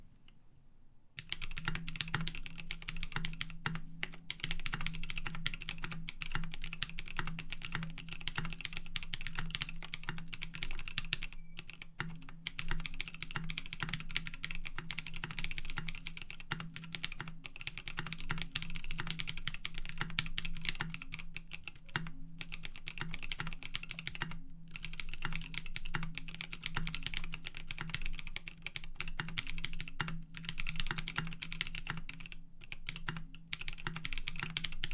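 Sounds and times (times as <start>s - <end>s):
fast typing on mechanical keyboard: 1.2s - 34.9s.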